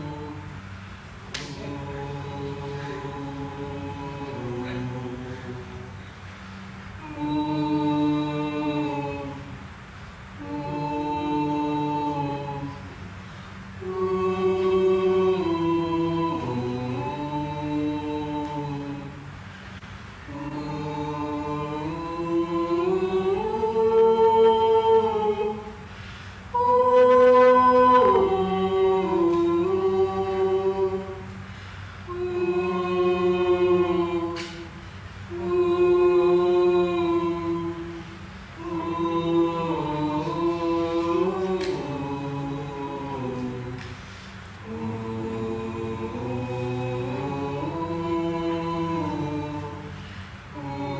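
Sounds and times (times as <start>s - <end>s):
voices singing unaccompanied: 0.0s - 50.9s.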